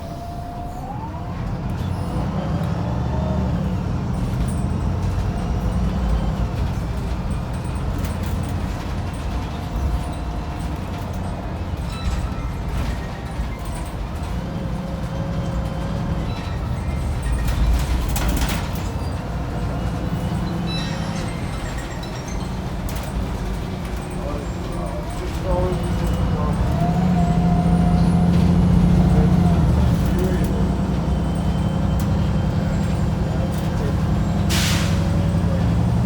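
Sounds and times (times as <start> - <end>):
bus diesel engine droning: 0.0 - 36.0.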